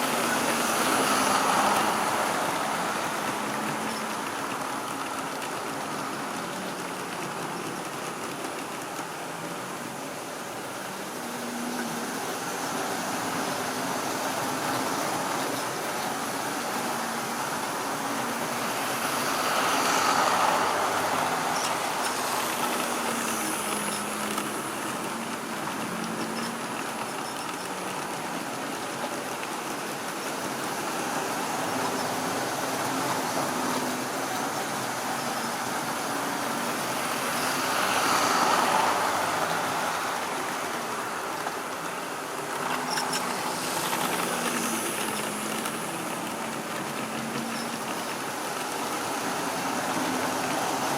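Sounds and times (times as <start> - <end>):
model train motor hum: 0.0 - 50.9.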